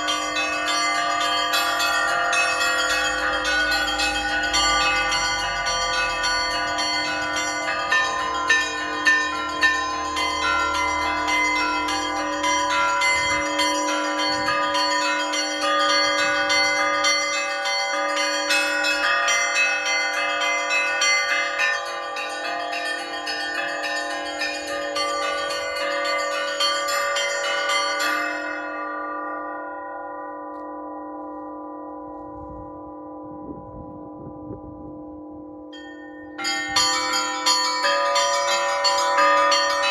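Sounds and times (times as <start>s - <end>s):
large bells humming: 0.0s - 39.9s
small church bells striking: 0.0s - 39.9s.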